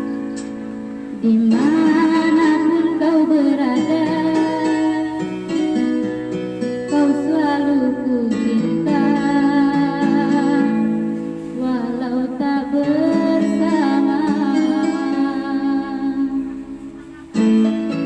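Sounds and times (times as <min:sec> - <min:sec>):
guitar accompaniment: 0:00.0 - 0:18.0
girl singing: 0:01.1 - 0:05.9, 0:06.8 - 0:16.8.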